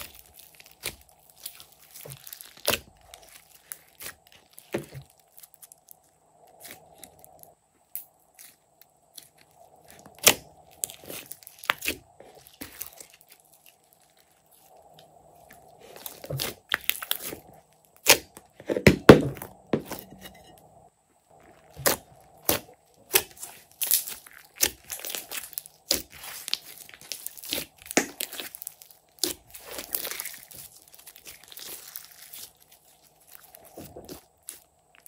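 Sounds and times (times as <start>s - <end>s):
slime popping and crackling: 0.0s - 14.7s, 15.4s - 19.4s, 21.7s - 35.0s.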